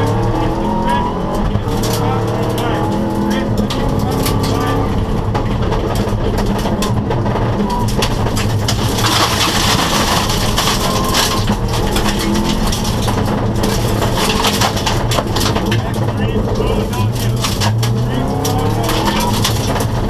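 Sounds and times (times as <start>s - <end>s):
car engine running: 0.0s - 20.0s
gravel rattling against underbody: 0.0s - 20.0s.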